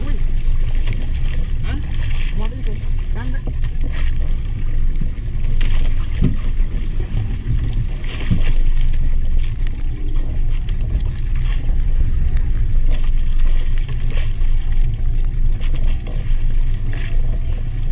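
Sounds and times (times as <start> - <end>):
boat engine rumble: 0.0 - 17.9
water splashes: 0.0 - 17.9
wind: 0.0 - 17.9.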